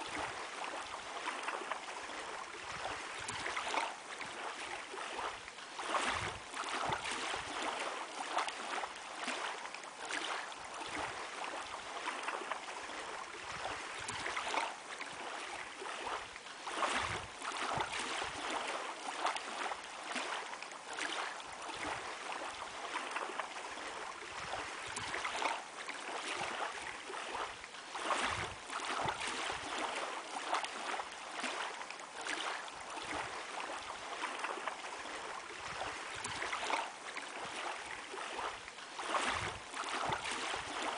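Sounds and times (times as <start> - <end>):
small waves lapping at shore: 0.0 - 40.9.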